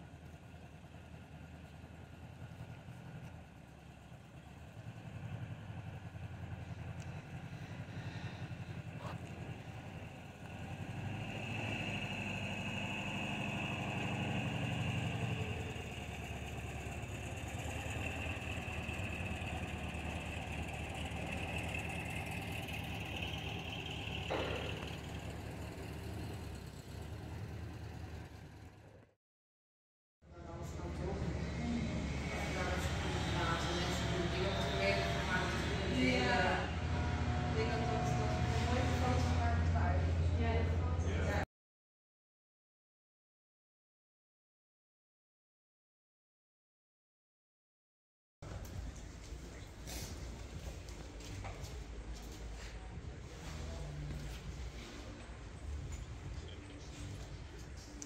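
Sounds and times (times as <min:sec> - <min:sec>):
engine low rumble: 0:00.0 - 0:29.2, 0:30.2 - 0:41.5, 0:48.4 - 0:58.0.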